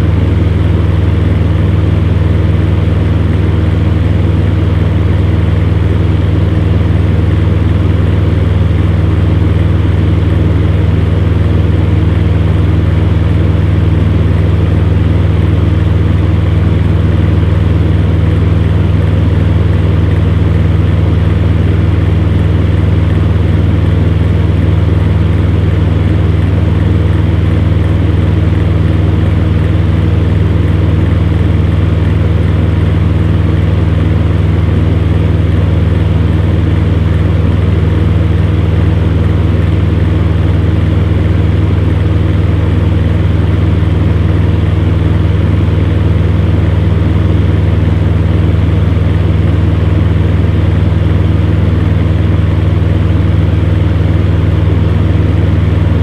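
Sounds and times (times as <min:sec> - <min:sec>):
electric fan heater running: 0:00.0 - 0:56.0.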